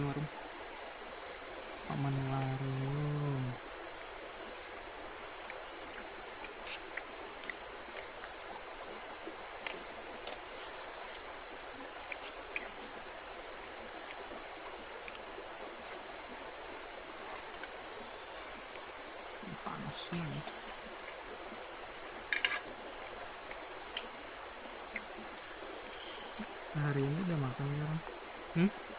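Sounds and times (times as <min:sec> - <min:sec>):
high-pitched insect drone: 0:00.0 - 0:28.9
pulsing insect call: 0:00.0 - 0:28.9
river water flowing: 0:00.0 - 0:28.9.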